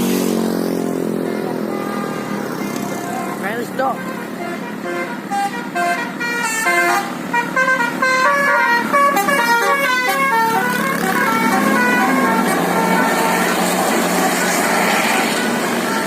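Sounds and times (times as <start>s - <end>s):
engine hum: 0.0s - 16.0s
musical air horns: 1.2s - 16.0s.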